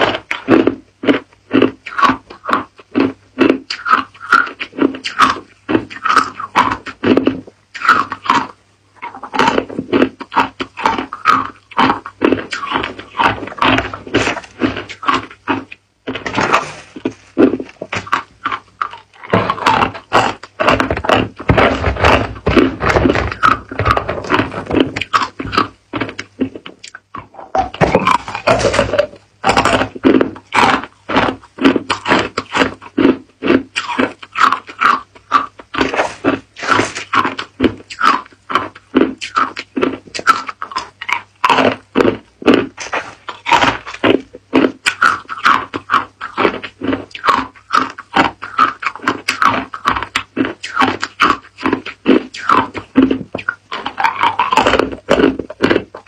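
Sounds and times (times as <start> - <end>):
ice cubes crunching: 9.3 - 27.0, 27.6 - 56.0.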